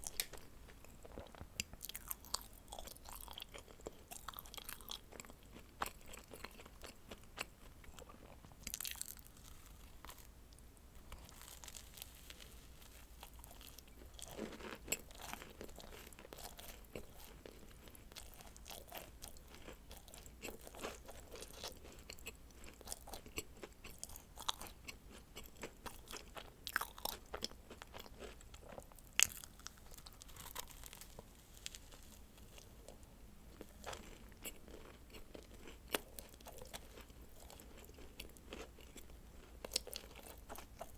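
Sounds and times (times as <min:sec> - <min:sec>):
crunchy chewing: 0:00.0 - 0:10.3, 0:11.0 - 0:40.9.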